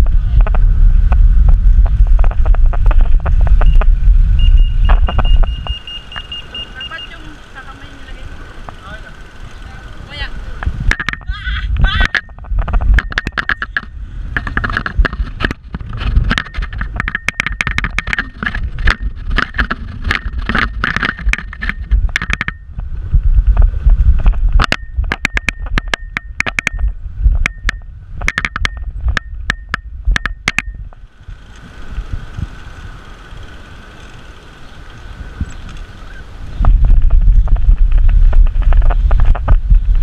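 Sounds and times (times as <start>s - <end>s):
wind on microphone: 0.0s - 5.9s, 10.0s - 40.0s
bike rattling and clattering: 0.0s - 40.0s.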